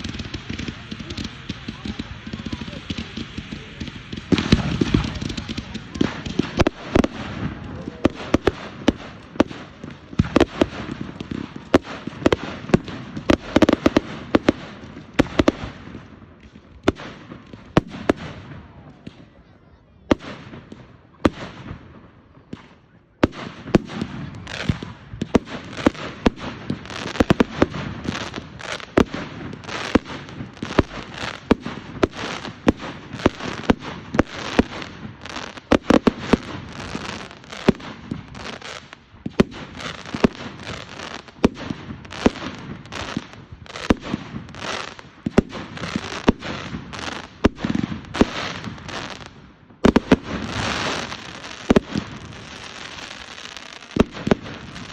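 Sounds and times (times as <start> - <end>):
fireworks banging and crackling: 0.0 - 54.9.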